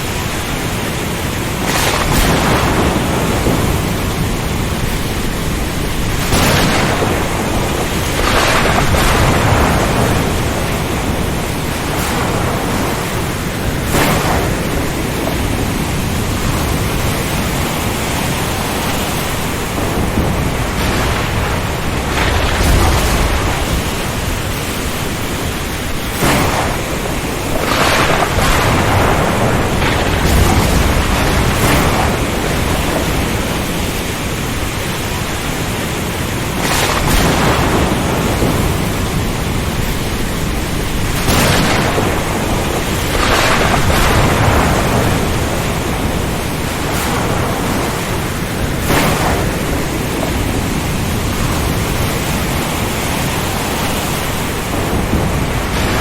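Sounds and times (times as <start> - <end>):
thunder rumbling: 0.0 - 56.0
waves crashing: 0.0 - 56.0
wind and rain roaring: 0.0 - 56.0.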